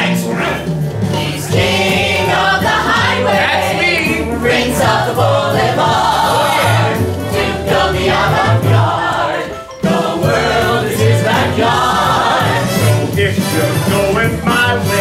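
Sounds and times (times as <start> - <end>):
backing music with bass line: 0.0 - 15.0
ensemble singing a show tune: 0.0 - 15.0.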